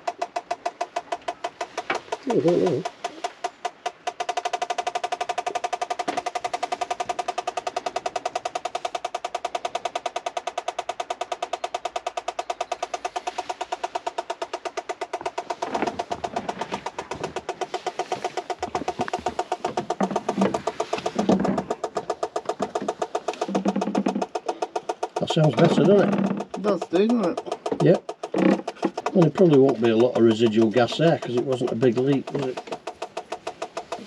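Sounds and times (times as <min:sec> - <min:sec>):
knocks and handling noises: 0:00.0 - 0:34.0.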